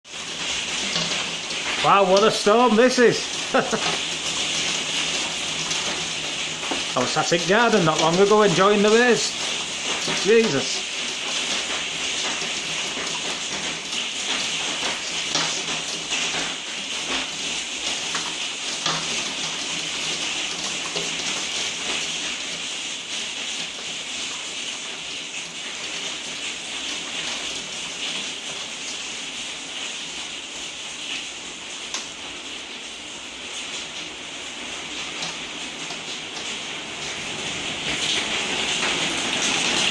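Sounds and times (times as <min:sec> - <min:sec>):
hail and rain on glass: 0:00.1 - 0:39.9.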